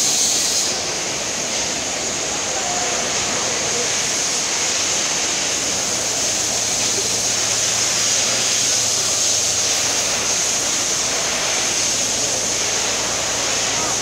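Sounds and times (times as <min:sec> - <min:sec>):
rushing hiss: 0:00.0 - 0:14.0.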